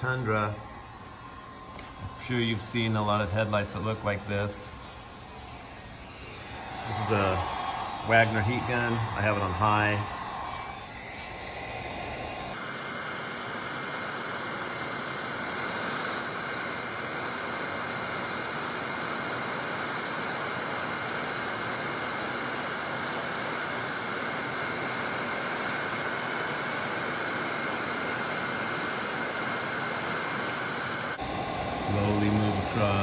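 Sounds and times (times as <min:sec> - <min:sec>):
heat gun fan hissing: 0:00.0 - 0:33.0.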